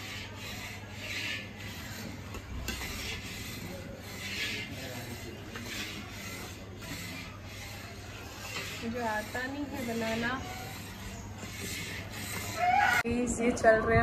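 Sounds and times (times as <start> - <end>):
metal spatula scraping a metal pan: 0.0 - 13.0.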